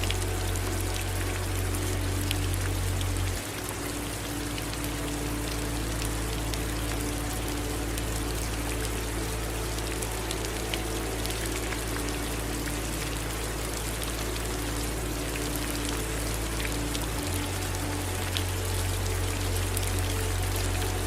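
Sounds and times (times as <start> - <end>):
low hum: 0.0 - 21.0
running water: 0.0 - 21.0
steady rain falling: 0.0 - 21.0.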